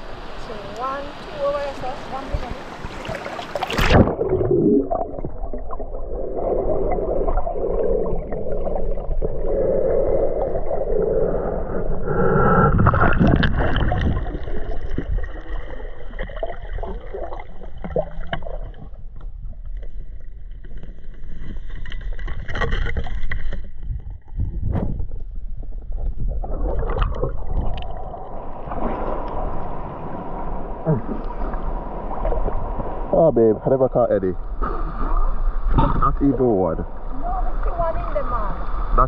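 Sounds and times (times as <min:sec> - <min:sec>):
underwater rush of water: 0:00.0 - 0:39.0
diver moving underwater: 0:01.3 - 0:33.2.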